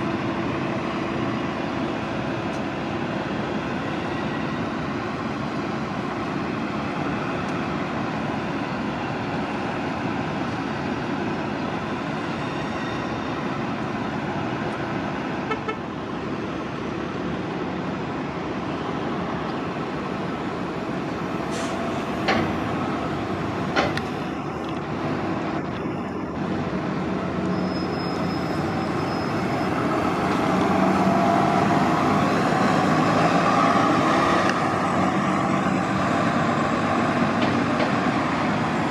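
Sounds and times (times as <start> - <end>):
bus engines and traffic: 0.0 - 38.9.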